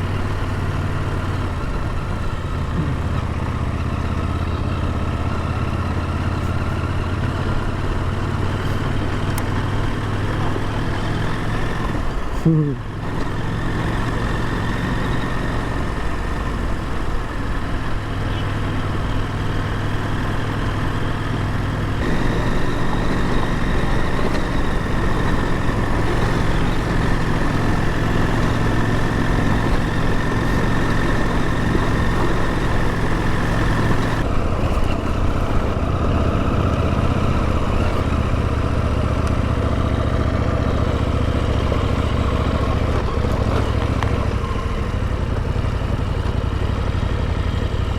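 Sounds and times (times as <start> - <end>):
motorcycle engine running: 0.0 - 47.9
road noise: 0.0 - 47.9.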